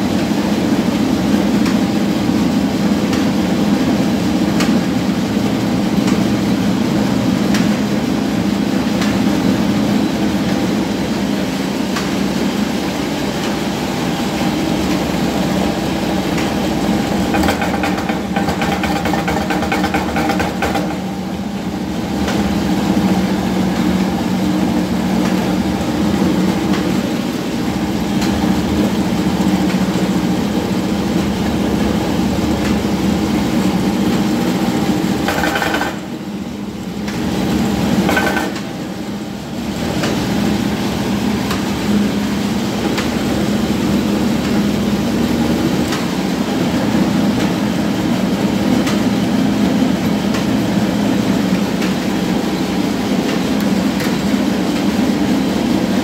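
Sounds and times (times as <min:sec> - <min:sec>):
grinding mill drone: 0:00.0 - 0:56.0.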